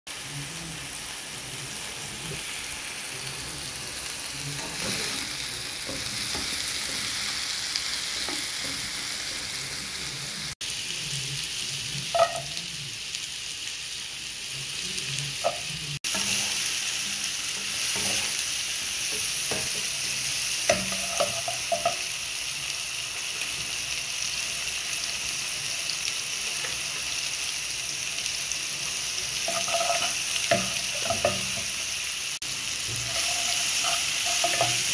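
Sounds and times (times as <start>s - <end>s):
oil sizzling in a pan: 0.1s - 34.9s.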